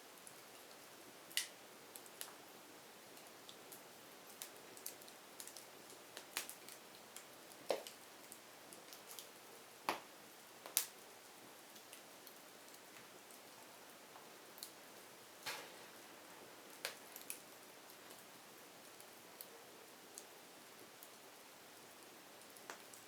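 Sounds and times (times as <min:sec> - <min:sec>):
faint fire hiss: 0:00.0 - 0:23.0
firewood crackling and popping: 0:00.1 - 0:23.0.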